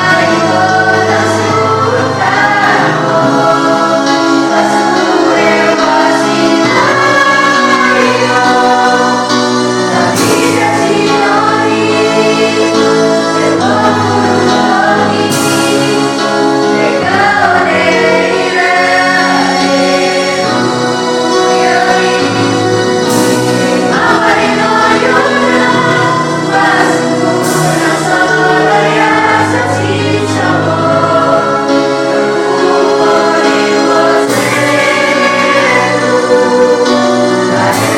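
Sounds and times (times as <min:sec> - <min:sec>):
vocal group singing in unison: 0:00.0 - 0:37.9.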